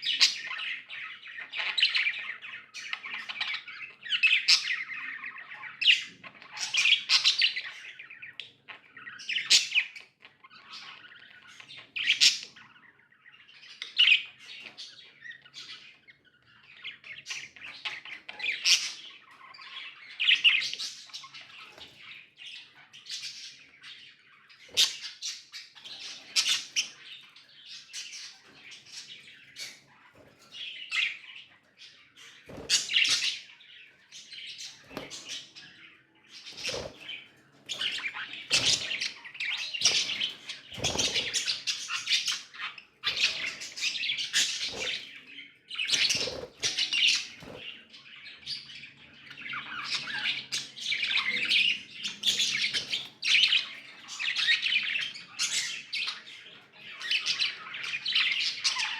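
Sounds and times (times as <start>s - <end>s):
budgerigars chirping and chattering: 0.0s - 58.9s.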